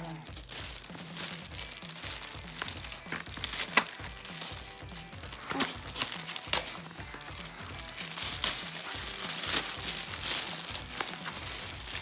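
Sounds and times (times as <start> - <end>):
background music: 0.0 - 12.0
plastic packaging crinkling: 0.0 - 12.0.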